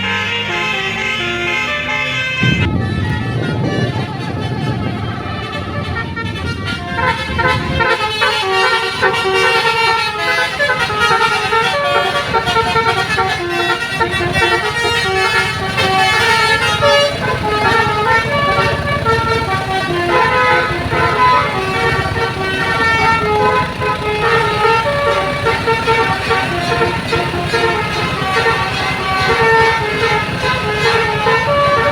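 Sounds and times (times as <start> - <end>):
bus engine rumble: 0.0 - 31.9
multi-tone air horn tune: 0.0 - 31.9.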